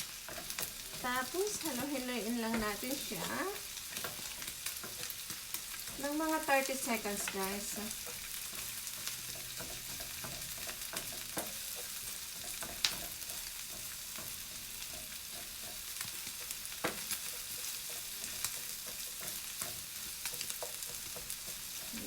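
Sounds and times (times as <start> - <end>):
meat sizzling in a frying pan: 0.0 - 22.0
utensil clicking against pan: 0.0 - 22.0.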